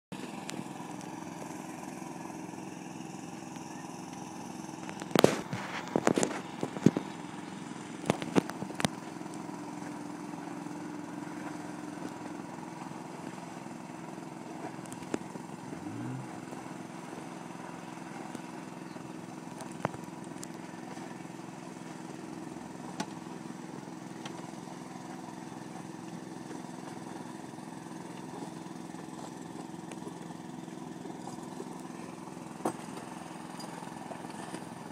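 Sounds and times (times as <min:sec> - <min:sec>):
boat engine humming: 0:00.1 - 0:34.9.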